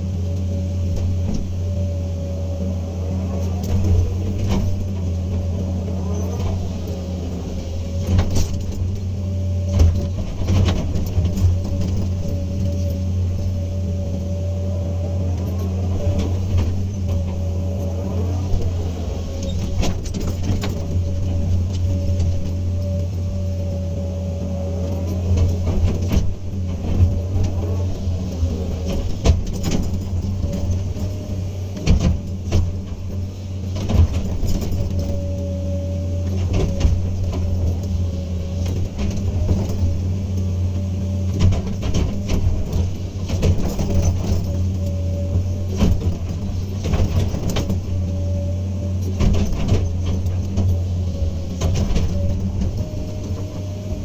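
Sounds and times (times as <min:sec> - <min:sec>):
diesel engine drone: 0:00.0 - 0:54.0
hydraulic whine: 0:00.0 - 0:54.0.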